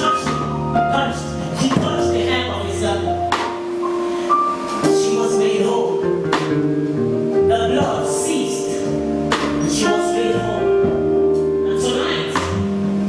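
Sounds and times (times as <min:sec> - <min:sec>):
gospel worship music: 0:00.0 - 0:13.0.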